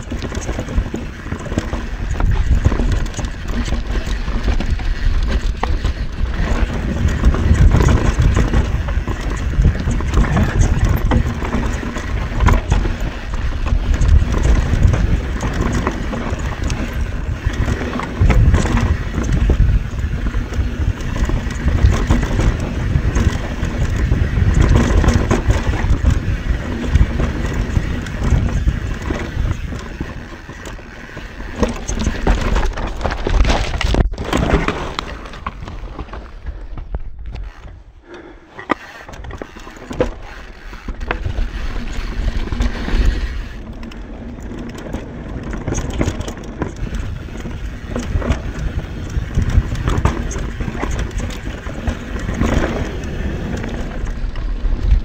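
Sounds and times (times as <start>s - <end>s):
wind on microphone: 0.0s - 44.6s, 45.2s - 55.0s
bike tyres rumbling and rattling: 0.0s - 55.0s.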